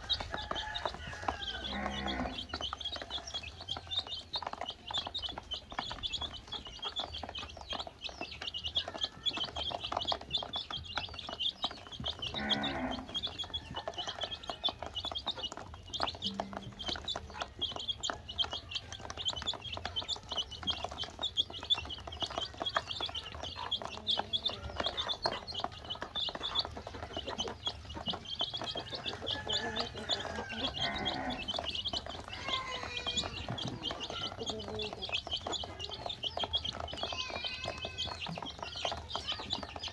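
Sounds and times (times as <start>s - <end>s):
baby chicks peeping: 0.0s - 39.9s
chicks pecking in plastic basin: 0.0s - 39.9s.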